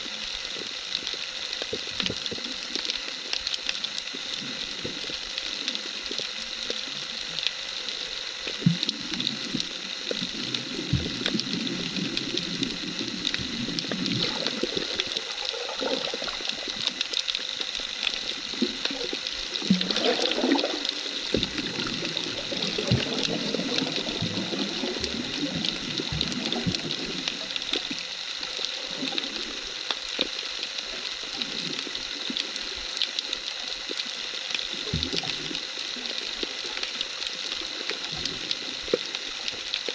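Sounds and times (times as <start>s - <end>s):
small underwater clicks and crackles: 0.0s - 39.9s
swirls of moving water: 0.0s - 39.9s
underwater sea hiss: 0.0s - 39.9s.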